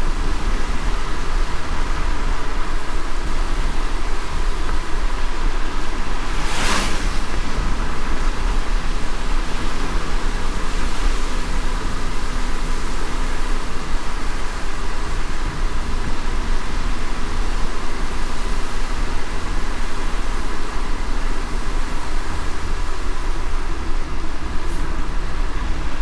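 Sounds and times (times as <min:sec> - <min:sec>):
car driving rumble: 0:00.0 - 0:26.0
rain on wet road: 0:00.0 - 0:26.0.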